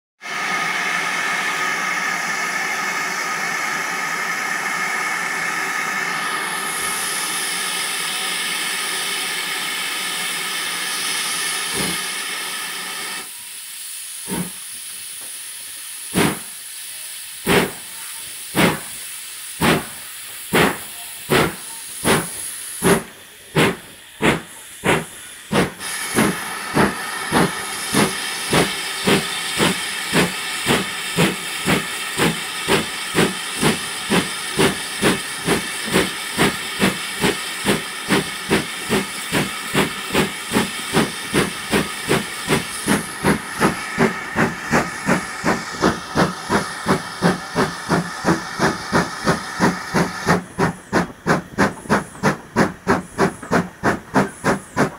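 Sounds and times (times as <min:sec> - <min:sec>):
loud hiss of steam: 0:00.2 - 0:54.9
steam locomotive exhaust chuffs: 0:00.2 - 0:54.9.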